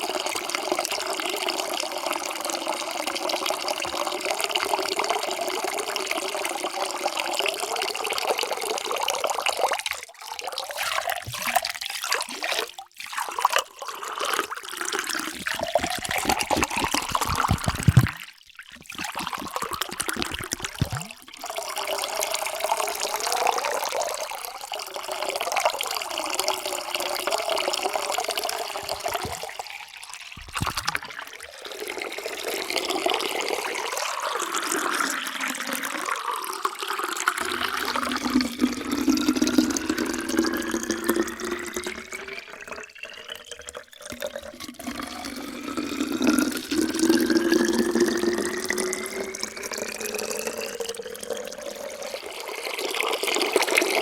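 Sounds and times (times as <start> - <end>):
water pouring into container: 0.0 - 54.0.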